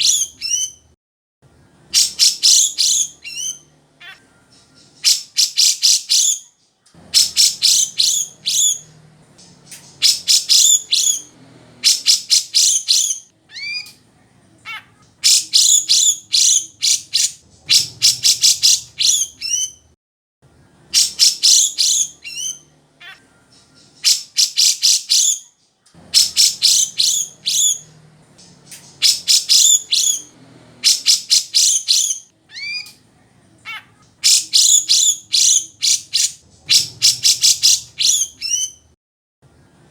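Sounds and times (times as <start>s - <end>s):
bulbul chattering song: 0.0s - 0.9s, 1.5s - 19.9s, 20.6s - 38.9s.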